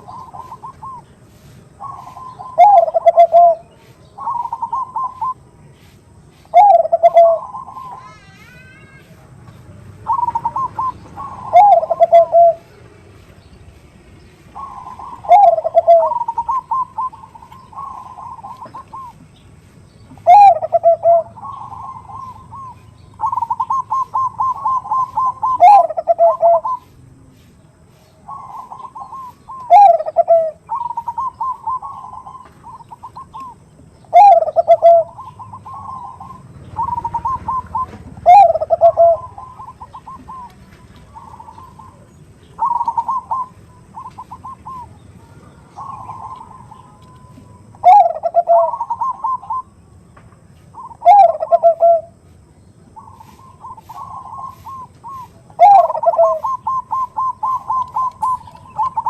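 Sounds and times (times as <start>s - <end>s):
dove cooing: 0.0s - 49.9s, 50.7s - 52.2s, 52.9s - 59.0s.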